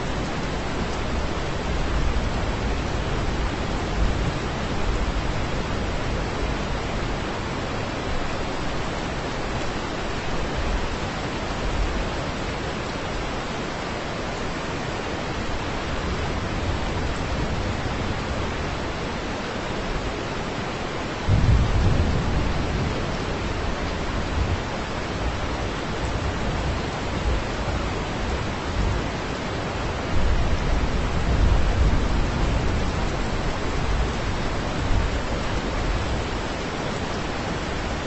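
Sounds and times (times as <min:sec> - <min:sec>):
heavy rain downpour hiss: 0:00.0 - 0:38.0.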